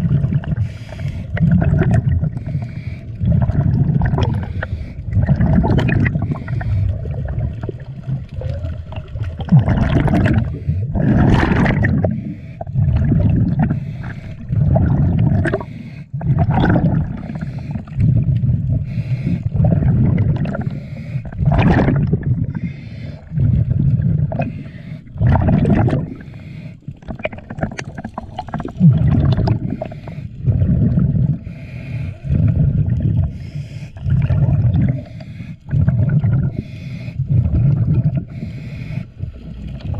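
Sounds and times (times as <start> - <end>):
diver's air bubbling underwater: 0.0 - 38.5.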